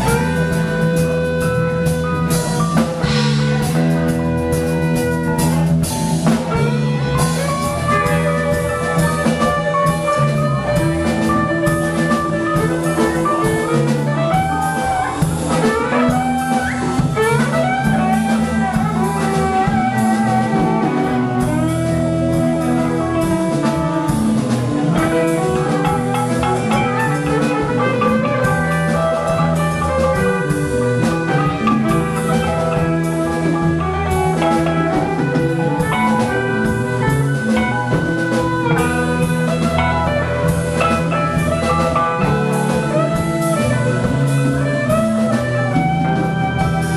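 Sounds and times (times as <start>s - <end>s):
drum kit: 0.0s - 46.9s
electric guitars: 0.0s - 46.9s
keyboard: 0.0s - 46.9s.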